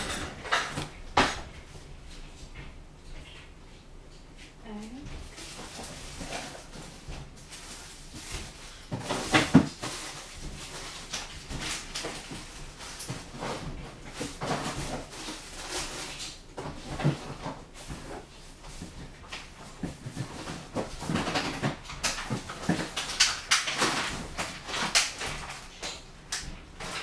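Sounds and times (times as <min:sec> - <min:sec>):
kitchen knocks and clatter: 0:00.0 - 0:03.5, 0:05.1 - 0:27.0.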